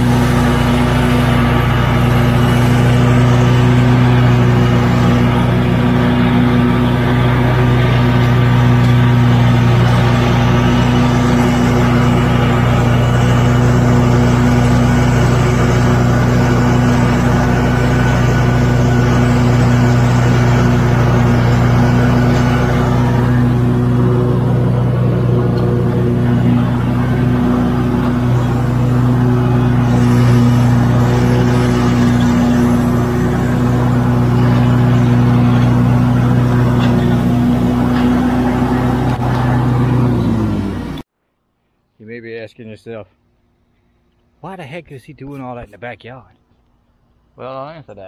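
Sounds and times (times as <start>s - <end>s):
lawn mower engine running: 0.0s - 41.1s.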